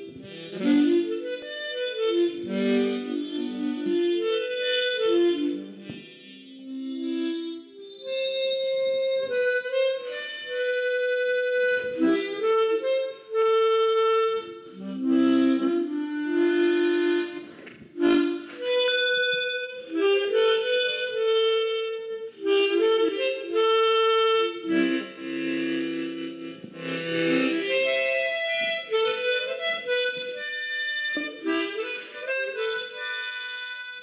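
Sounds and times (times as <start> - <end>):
instrumental music with held notes: 0.0 - 34.0.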